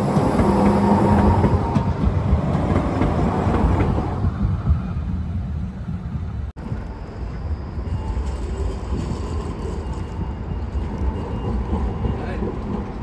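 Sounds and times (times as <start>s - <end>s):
tram running with whine: 0.0s - 13.0s.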